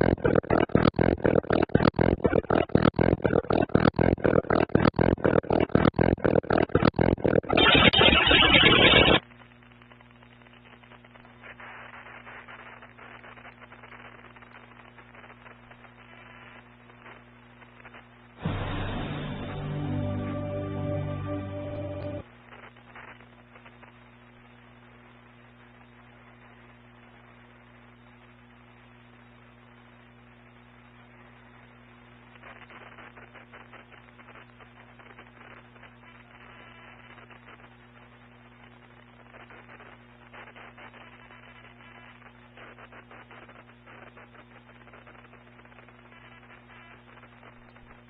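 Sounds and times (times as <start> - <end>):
crackling static: 0.0 - 48.0.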